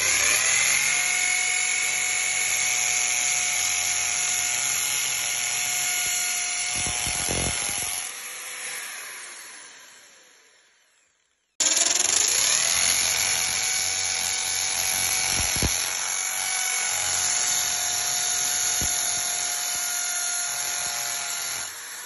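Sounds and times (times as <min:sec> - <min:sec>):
hammer drill boring into wall: 0:00.0 - 0:22.0.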